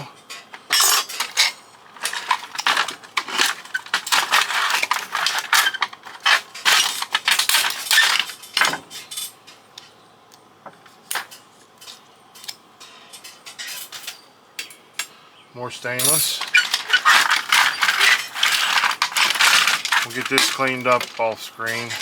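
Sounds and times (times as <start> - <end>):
small metal parts clattering: 0.3 - 9.6, 11.1 - 15.1, 15.9 - 22.0.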